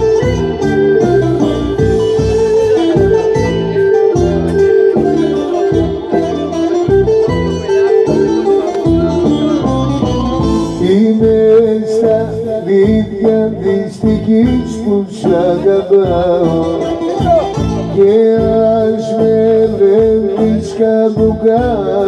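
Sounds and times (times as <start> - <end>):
live band playing: 0.0 - 22.0
plucked-string lead melody: 0.0 - 22.0.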